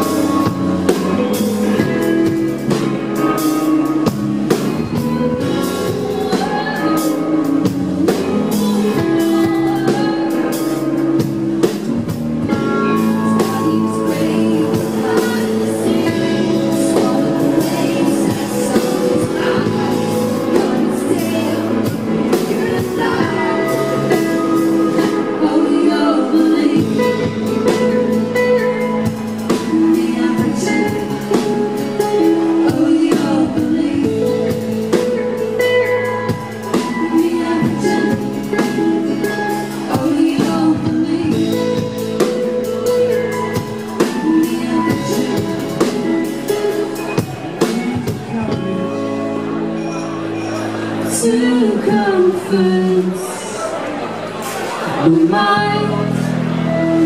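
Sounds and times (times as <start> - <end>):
drums hitting steadily: 0.0 - 25.8, 26.5 - 48.9
live band playing: 0.0 - 57.0.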